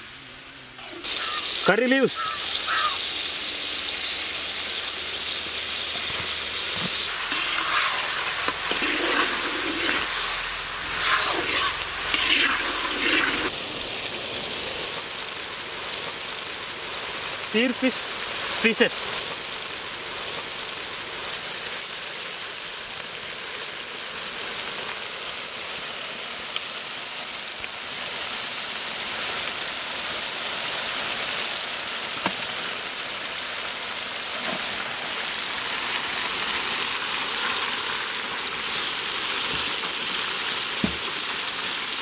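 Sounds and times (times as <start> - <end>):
food sizzling in wok: 0.0 - 42.0.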